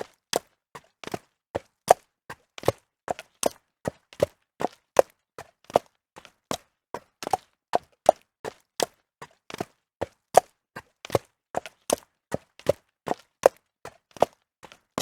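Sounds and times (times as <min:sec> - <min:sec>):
horse hooves clopping on stone: 0:00.0 - 0:15.0.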